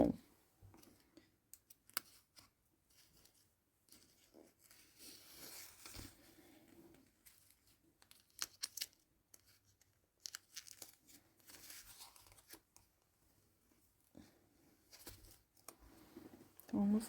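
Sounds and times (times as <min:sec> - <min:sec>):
soft rustling of yarn: 0:00.0 - 0:17.0.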